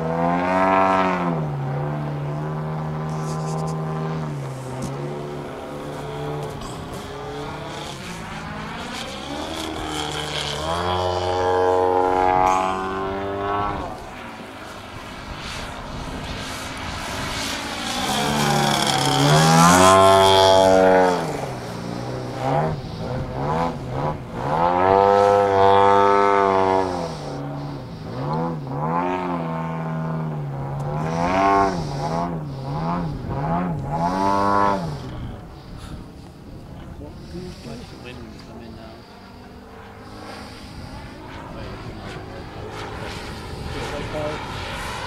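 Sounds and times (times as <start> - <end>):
model airplane engine: 0.0 - 45.0.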